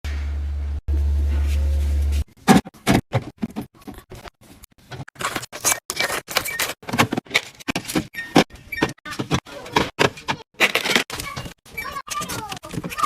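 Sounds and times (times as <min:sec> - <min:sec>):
items clacking and rustling: 0:02.4 - 0:13.0.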